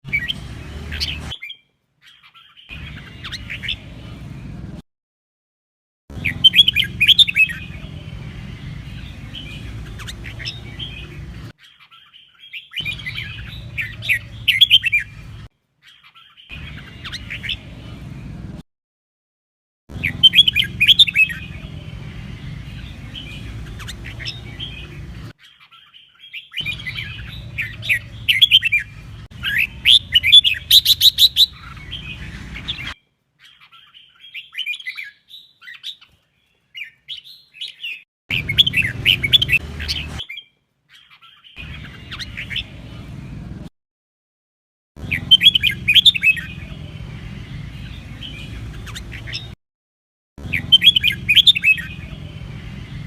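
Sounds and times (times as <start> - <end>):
bird song warbled phrases: 0.0 - 4.8, 6.1 - 18.6, 19.9 - 43.7, 45.0 - 49.6, 50.4 - 53.0.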